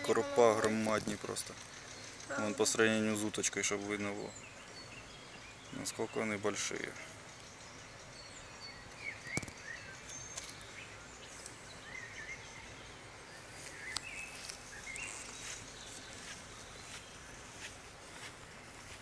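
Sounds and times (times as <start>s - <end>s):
faint outdoor ambience: 0.0s - 19.0s.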